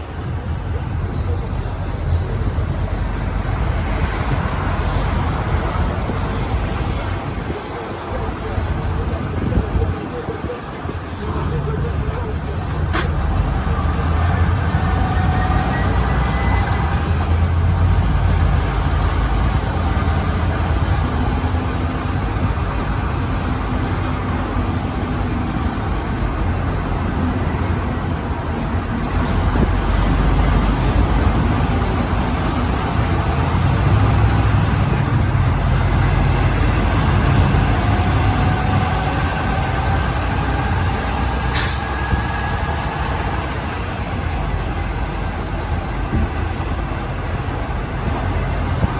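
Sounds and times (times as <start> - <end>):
heavy truck engine drone: 0.0 - 48.9.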